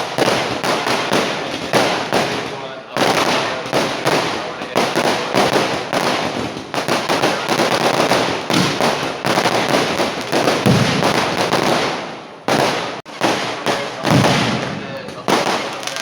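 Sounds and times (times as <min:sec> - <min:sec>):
firecracker blasts and crackling: 0:00.0 - 0:16.0
heavy firework booms: 0:00.0 - 0:16.0.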